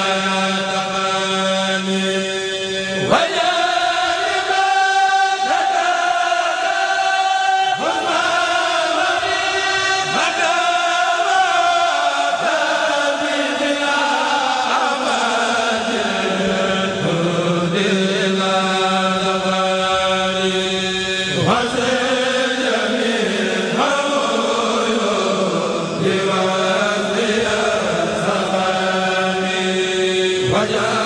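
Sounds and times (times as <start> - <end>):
men chanting together: 0.0 - 31.0.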